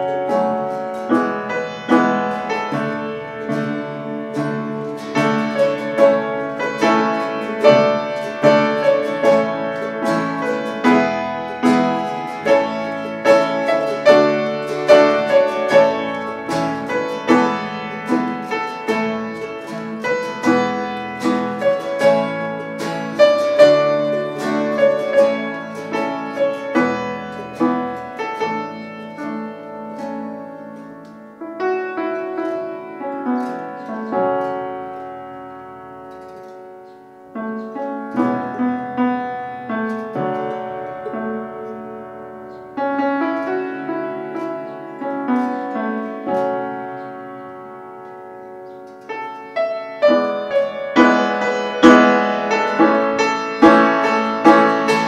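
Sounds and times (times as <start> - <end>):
acoustic guitar: 0.0 - 55.0
piano: 0.0 - 55.0
small plucked string instrument: 0.0 - 55.0.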